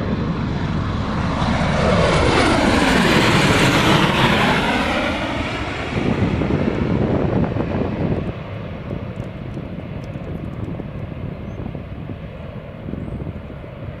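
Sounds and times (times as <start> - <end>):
aircraft rotor rumble: 0.0 - 14.0.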